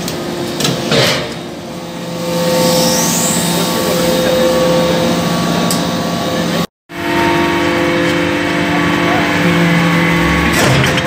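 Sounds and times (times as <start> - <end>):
hydraulic press pump humming: 0.0 - 11.0.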